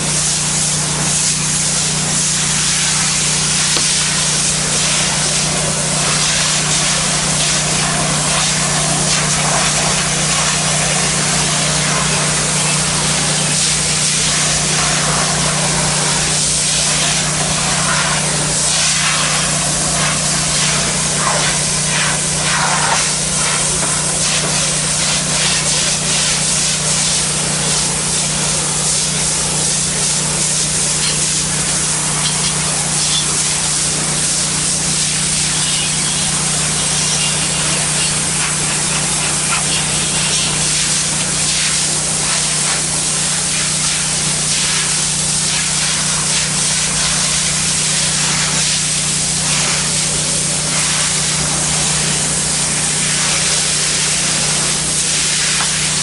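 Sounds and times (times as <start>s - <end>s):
machine low hum: 0.0s - 56.0s
pressure washer spray hissing on tile: 0.0s - 56.0s.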